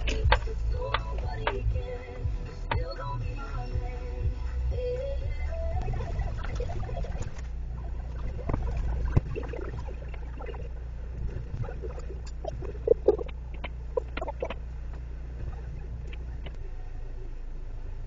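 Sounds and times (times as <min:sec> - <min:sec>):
car engine low hum: 0:00.0 - 0:18.0.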